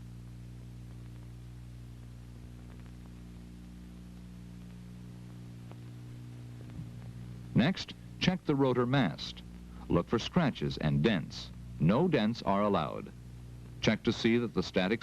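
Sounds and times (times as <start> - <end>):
steady low hum with hiss: 0.0 - 15.0.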